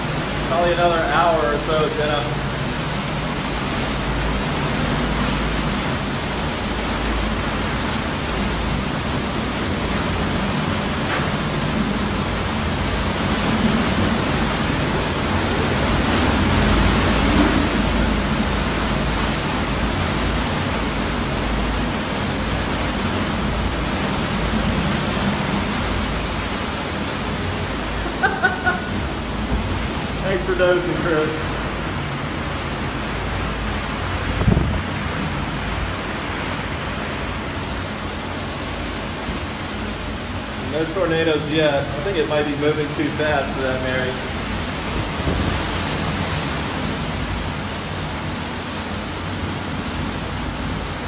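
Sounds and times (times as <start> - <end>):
driving rain: 0.0 - 51.0
wind: 0.0 - 51.0.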